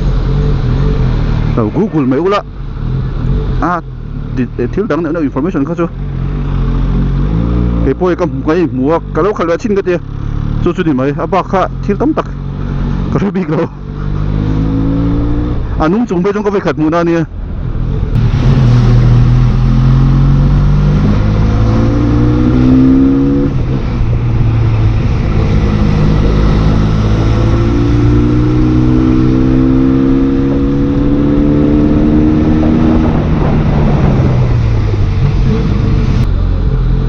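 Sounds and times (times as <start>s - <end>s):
motorcycle engine revving: 0.0s - 15.8s, 18.1s - 37.0s.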